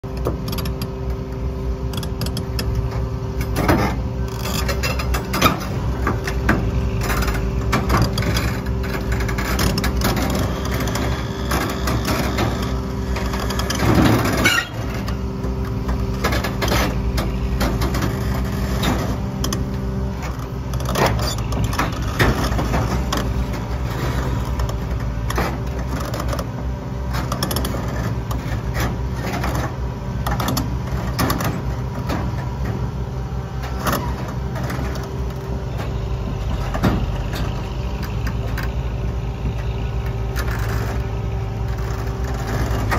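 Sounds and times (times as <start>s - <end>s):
excavator diesel engine running: 0.0s - 42.9s
metallic clanks and creaks: 0.0s - 42.9s.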